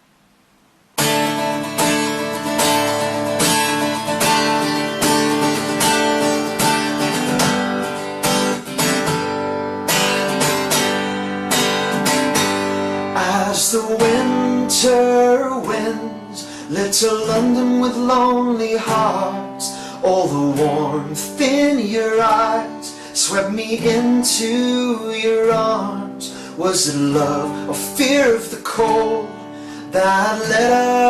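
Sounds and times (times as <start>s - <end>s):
acoustic guitar strumming chords: 1.0s - 31.0s.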